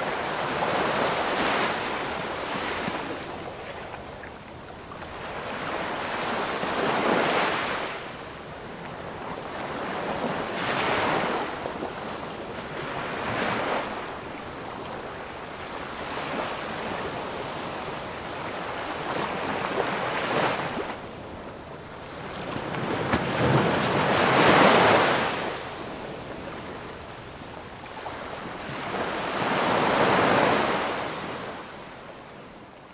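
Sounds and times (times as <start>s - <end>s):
sea waves breaking on shore: 0.0s - 32.5s.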